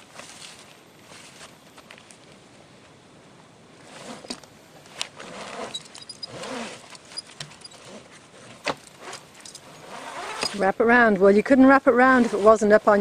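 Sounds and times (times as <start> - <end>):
rustling and scraping: 0.0 - 3.0, 3.8 - 11.3.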